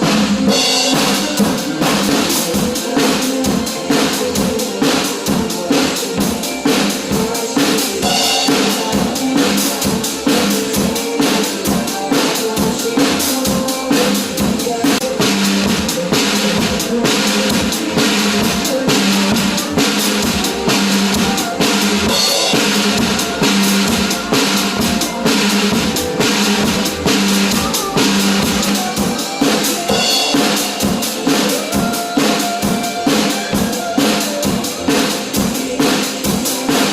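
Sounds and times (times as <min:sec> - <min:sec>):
drum kit playing dance beat: 0:00.0 - 0:36.9
recorded pop song: 0:00.0 - 0:36.9.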